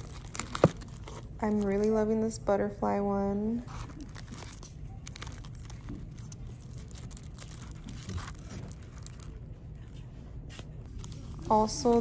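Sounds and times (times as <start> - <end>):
plastic wrap crinkling: 0.0 - 2.0, 3.6 - 12.0
low steady hum: 0.0 - 12.0.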